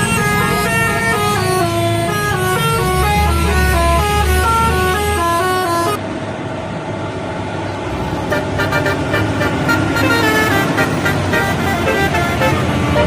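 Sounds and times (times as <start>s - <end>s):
bus air horns playing a tune: 0.0s - 6.0s, 8.3s - 13.0s
deep engine hum: 0.0s - 13.0s
road noise: 0.0s - 13.0s.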